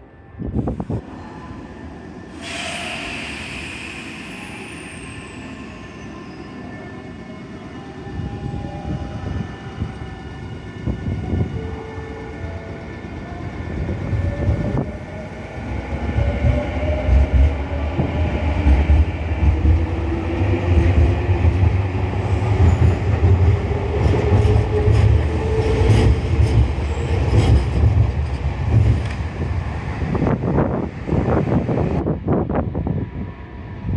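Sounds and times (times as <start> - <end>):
electric train rumble: 0.0 - 33.9.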